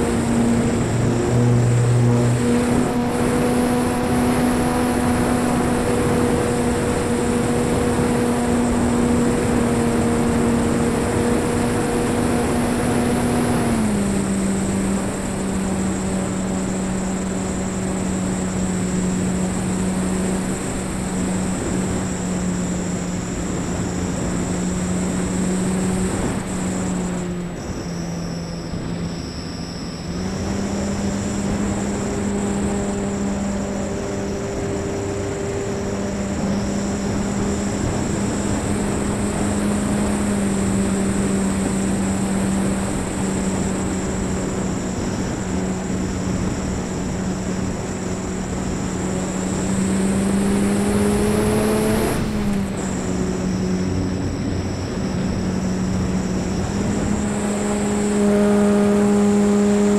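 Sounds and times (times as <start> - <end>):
electric motor and propeller drone: 0.0 - 59.9.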